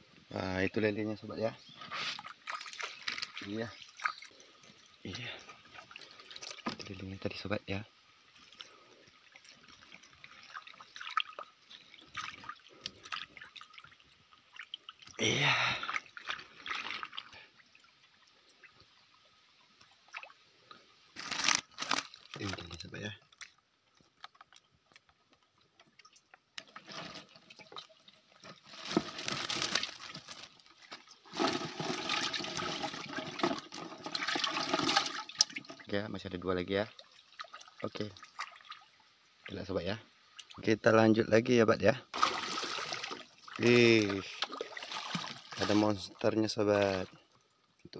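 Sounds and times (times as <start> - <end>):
water splashing and dripping: 2.0 - 20.8, 21.5 - 40.7, 42.1 - 47.9.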